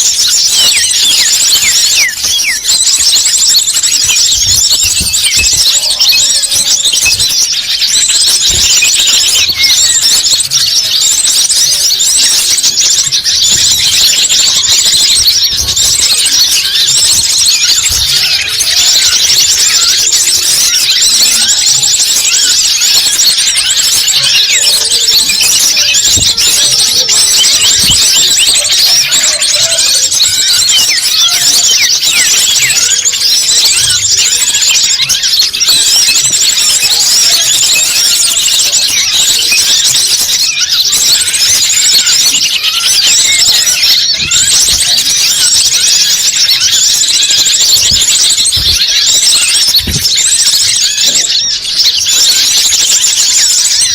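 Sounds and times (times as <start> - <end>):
chorus of small birds chirping: 0.0 - 53.9.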